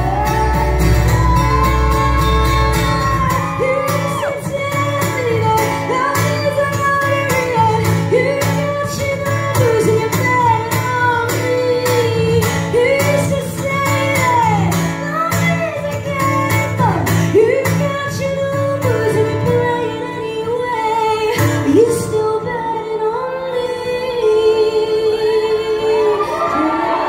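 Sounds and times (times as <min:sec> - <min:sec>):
strummed acoustic guitar: 0:00.0 - 0:22.1
second guitar: 0:00.0 - 0:27.0
woman singing: 0:00.0 - 0:27.0.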